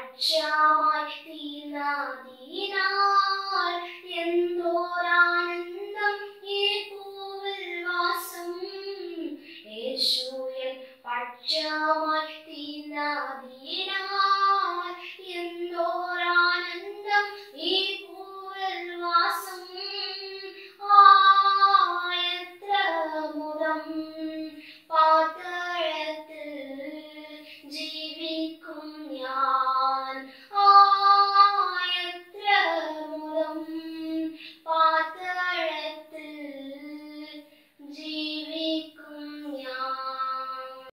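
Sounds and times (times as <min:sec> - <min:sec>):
girl singing gospel song: 0:00.0 - 0:40.9.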